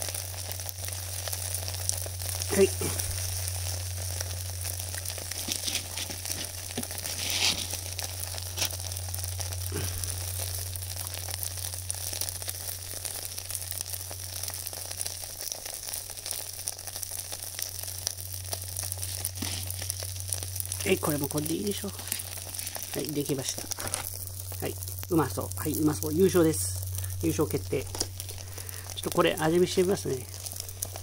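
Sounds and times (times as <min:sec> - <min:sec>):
crackles and clicks: 0:00.0 - 0:31.0
vegetables sizzling in a tray: 0:00.0 - 0:31.0.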